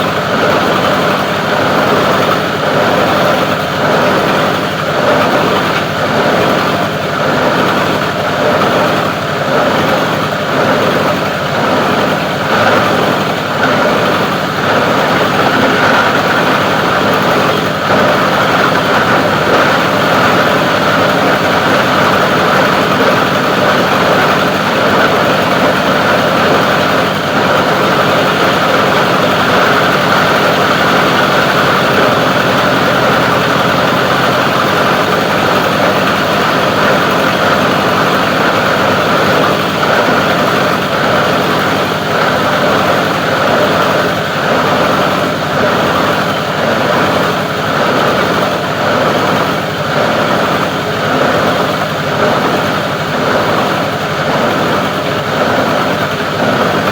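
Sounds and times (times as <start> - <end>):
plastic grinder machine running: 0.0 - 56.9.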